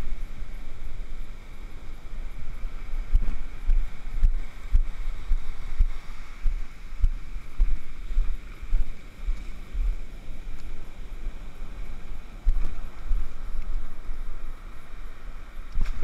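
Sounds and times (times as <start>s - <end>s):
surf washing up beach: 0.0s - 16.0s
wind buffeting microphone: 0.0s - 16.0s.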